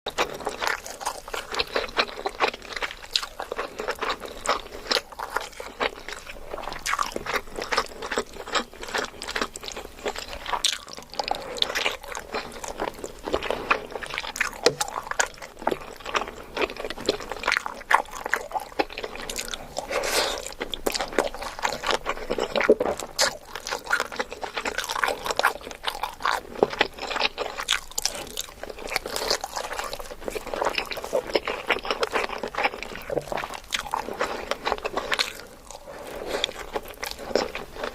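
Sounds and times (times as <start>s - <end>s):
person chewing food: 0.1s - 37.9s.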